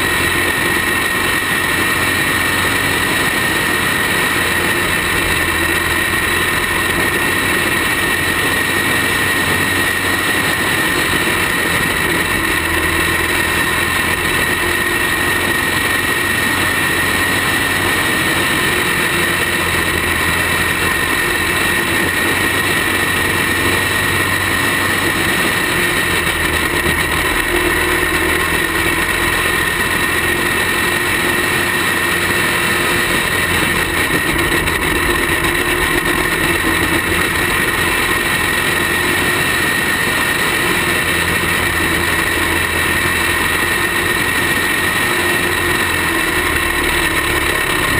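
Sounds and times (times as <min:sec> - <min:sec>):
kart engine droning: 0:00.0 - 0:47.9.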